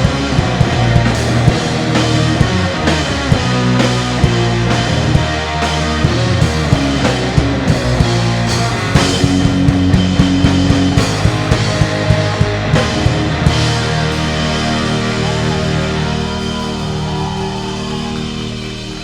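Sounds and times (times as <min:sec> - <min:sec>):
drum beat: 0:00.0 - 0:18.0
bass guitar: 0:00.0 - 0:19.0
electric guitar: 0:00.0 - 0:19.0.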